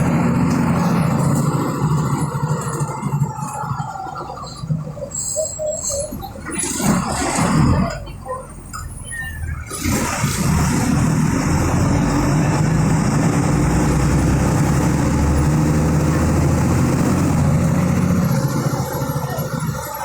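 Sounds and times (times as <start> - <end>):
diesel bus engine running: 0.0 - 20.0.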